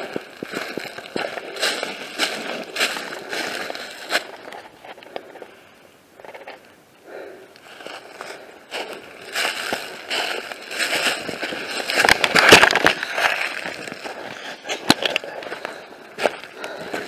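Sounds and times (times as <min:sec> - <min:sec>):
footsteps crunching dry leaves: 0:00.0 - 0:04.9, 0:07.6 - 0:17.0.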